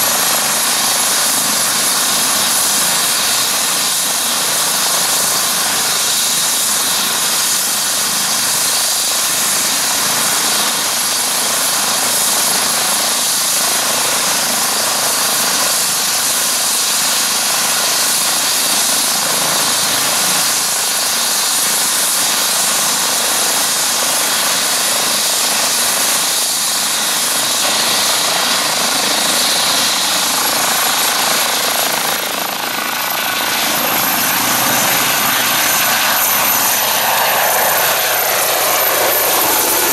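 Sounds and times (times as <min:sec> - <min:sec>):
helicopter rotor running: 0:00.0 - 0:39.9
helicopter turbine whine: 0:00.0 - 0:39.9.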